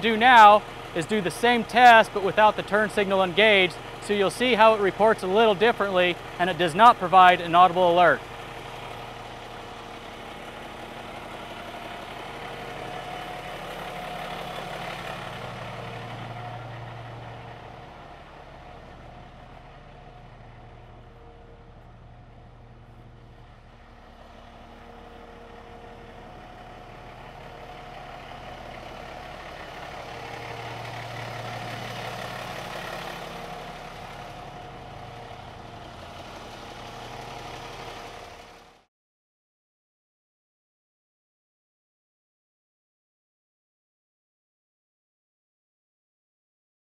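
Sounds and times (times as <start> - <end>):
truck engine hum from cab: 0.0 - 38.9.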